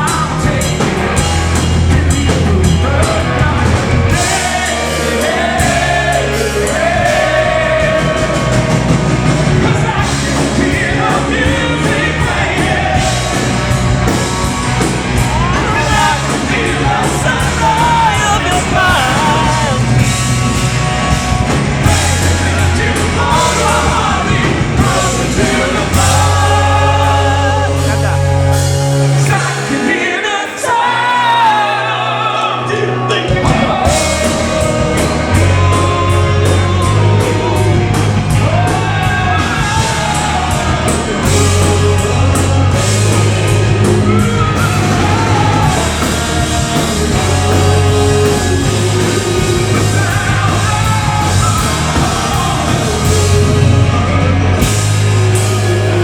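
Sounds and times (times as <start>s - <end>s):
male lead singer: 0.0s - 56.0s
rock band playing live: 0.0s - 56.0s.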